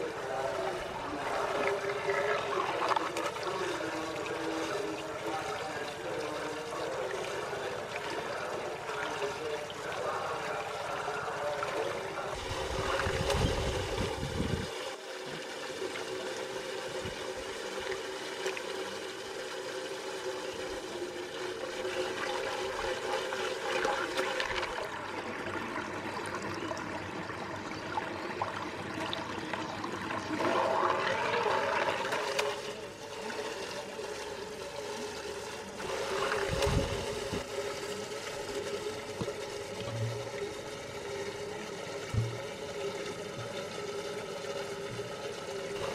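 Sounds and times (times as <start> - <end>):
steady hum: 0.0 - 45.9
water draining down whirlpool: 0.0 - 45.9.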